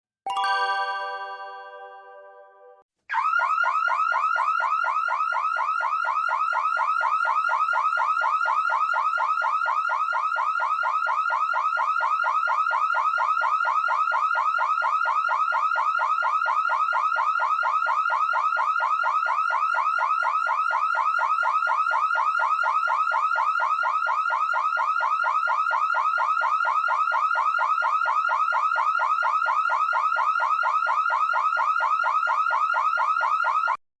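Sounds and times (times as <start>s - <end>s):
car alarm siren warbling: 3.1s - 33.8s.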